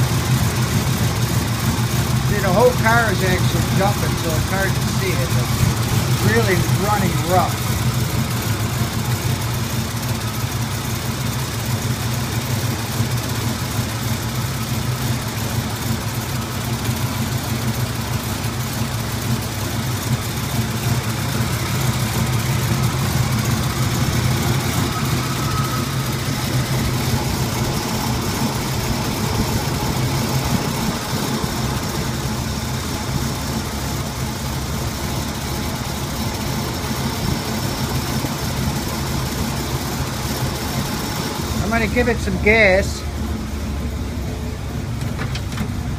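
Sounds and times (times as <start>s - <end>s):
car engine idling roughly: 0.0s - 45.9s.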